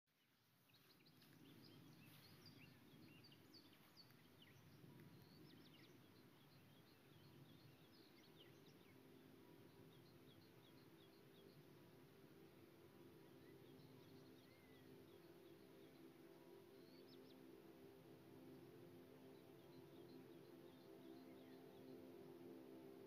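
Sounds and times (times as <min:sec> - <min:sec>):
faint birds chirping: 0:00.1 - 0:23.0
low steady hum: 0:00.4 - 0:23.0.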